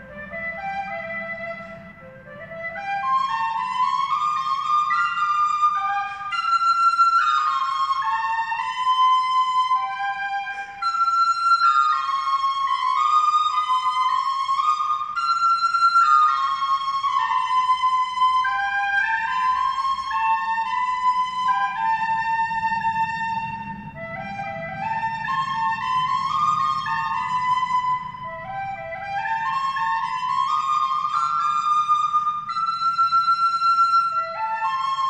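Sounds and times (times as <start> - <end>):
flute-like melody: 0.0 - 35.0.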